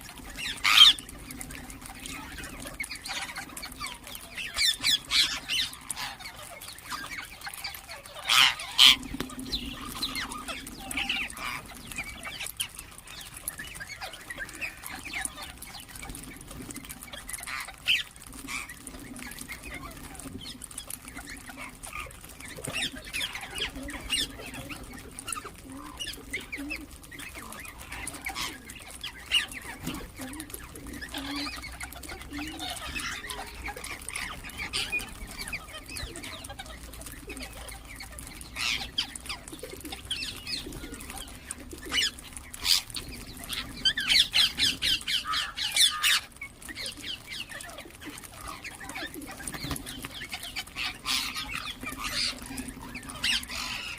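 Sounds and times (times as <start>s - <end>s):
parrots chirping and calling: 0.0s - 53.9s.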